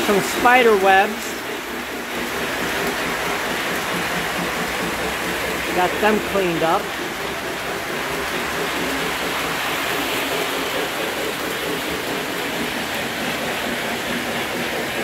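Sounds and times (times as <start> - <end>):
model trains whirring on track: 0.0 - 15.0.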